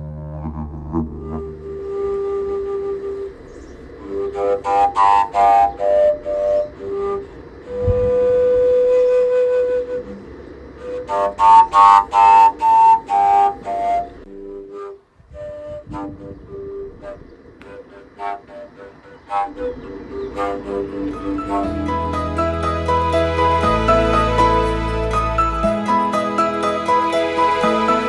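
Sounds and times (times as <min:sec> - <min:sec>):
flute melody: 0:00.0 - 0:28.0.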